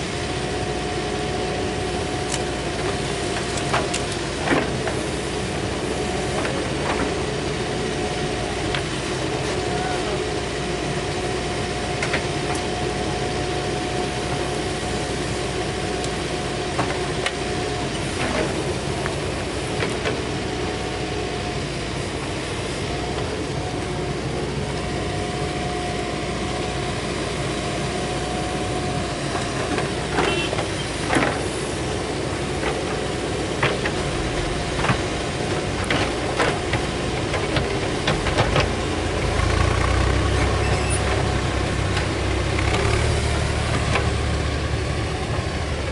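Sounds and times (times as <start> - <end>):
diesel engine running: 0.0 - 45.9
steady whine: 1.5 - 45.9.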